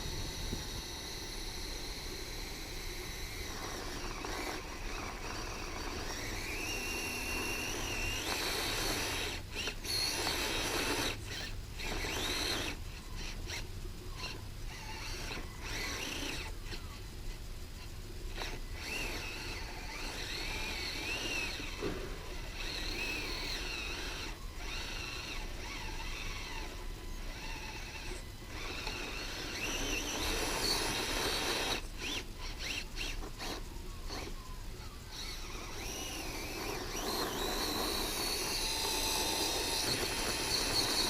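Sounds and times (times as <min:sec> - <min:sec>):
small electric motor whining: 0:00.0 - 0:41.0.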